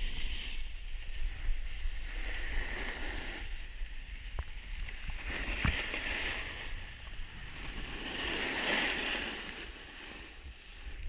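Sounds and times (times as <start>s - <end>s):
skis scraping packed snow: 0.0s - 11.0s
wind rumble on microphone: 0.0s - 11.0s.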